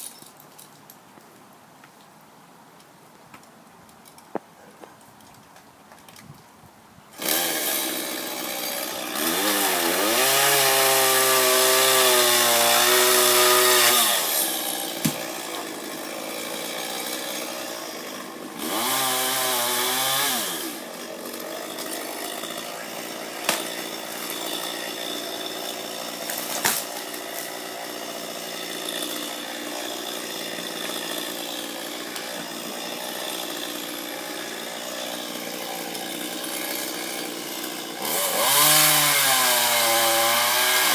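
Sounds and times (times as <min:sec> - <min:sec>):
chainsaw revving: 0:07.2 - 0:40.9.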